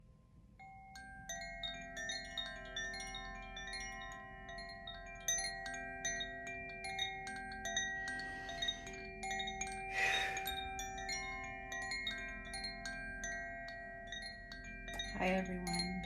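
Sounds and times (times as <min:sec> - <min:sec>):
wind chime ringing: 0:00.6 - 0:16.0.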